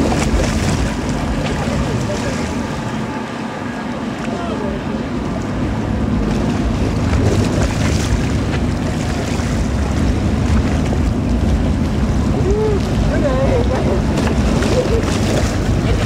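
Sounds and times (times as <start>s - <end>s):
bow wash rushing through water: 0.0s - 16.0s
ferry engine low rumble: 0.0s - 16.0s
wind on microphone: 0.0s - 16.0s.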